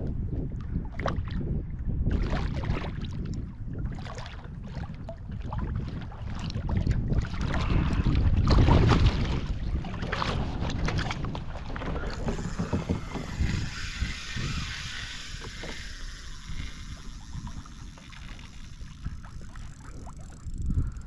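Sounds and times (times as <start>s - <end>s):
water lapping against hull: 0.0s - 21.0s
wind buffeting microphone: 0.0s - 21.0s.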